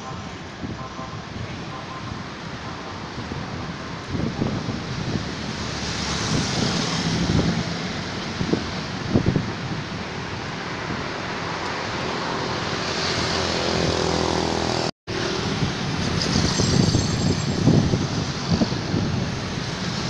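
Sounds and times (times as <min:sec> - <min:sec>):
road traffic: 0:00.0 - 0:20.0
wind rushing over microphone: 0:00.0 - 0:20.0
wind gusts buffeting microphone: 0:00.1 - 0:20.0.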